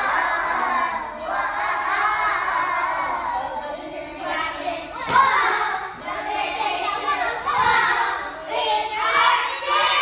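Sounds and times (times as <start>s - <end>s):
children singing: 0.0s - 10.0s.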